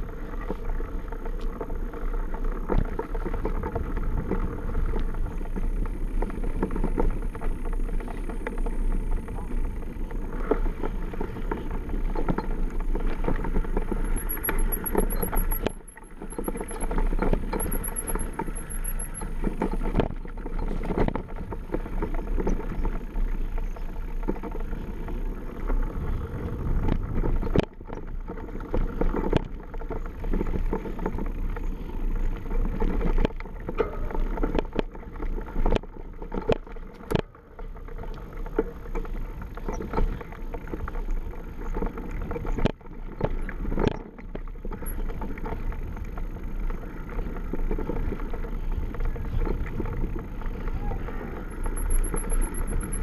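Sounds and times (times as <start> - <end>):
bike frame rattling: 0.0 - 53.0
bike tyres rumbling on dirt: 0.0 - 53.0
small knocks and clatters: 0.2 - 25.9, 26.8 - 50.7.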